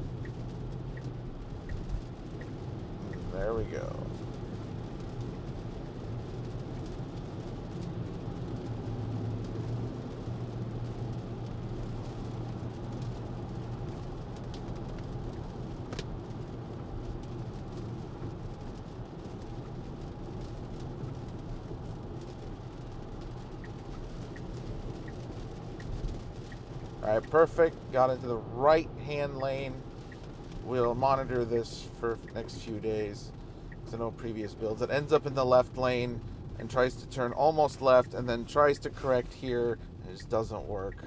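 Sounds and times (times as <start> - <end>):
tyre and road noise: 0.0 - 41.0.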